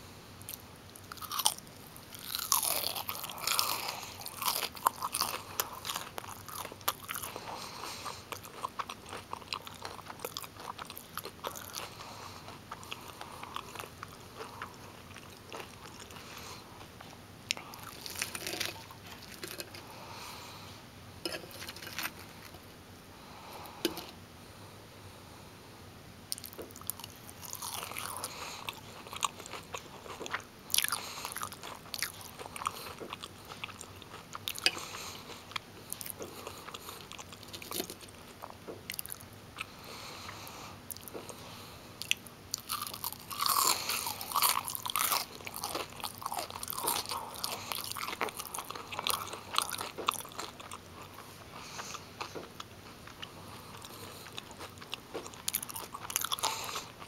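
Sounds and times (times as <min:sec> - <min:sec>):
crunching and chewing: 0:00.4 - 0:22.7, 0:26.3 - 0:57.0.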